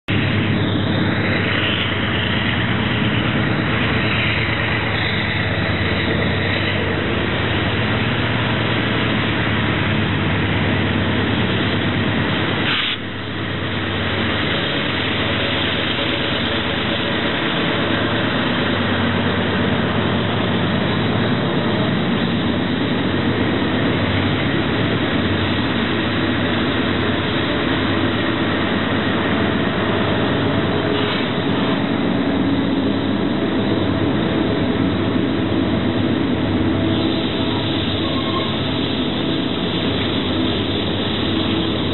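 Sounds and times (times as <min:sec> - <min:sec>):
diesel locomotives under heavy load: 0:00.0 - 0:41.9.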